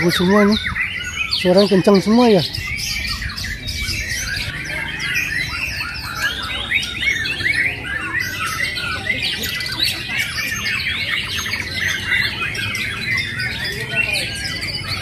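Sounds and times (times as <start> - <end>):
many songbirds singing: 0.0 - 15.0.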